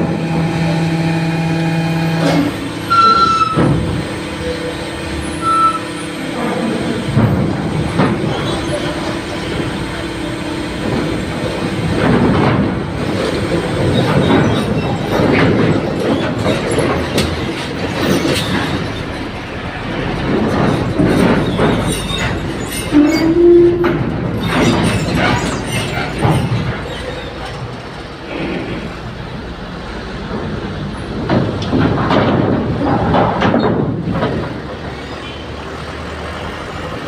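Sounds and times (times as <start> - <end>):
engine rumble: 0.0 - 37.0
vehicles clanking over steel ramp: 0.0 - 37.0.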